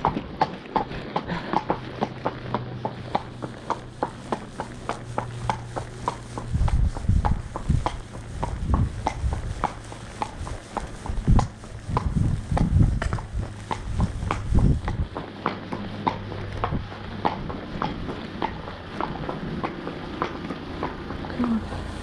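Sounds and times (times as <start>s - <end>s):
horse hooves clip-clopping on road: 0.0s - 22.0s
low rumble: 1.0s - 22.0s.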